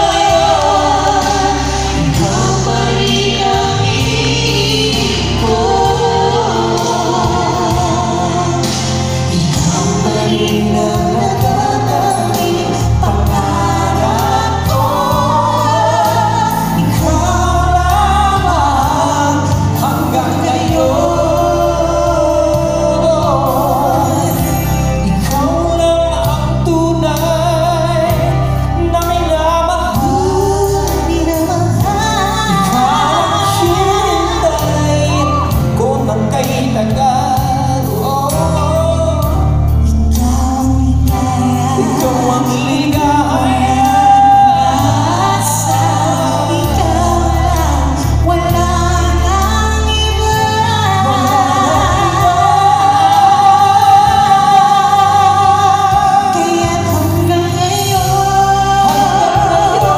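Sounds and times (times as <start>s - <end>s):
instrumental accompaniment: 0.0s - 59.9s
men singing a pop ballad duet: 0.0s - 59.9s.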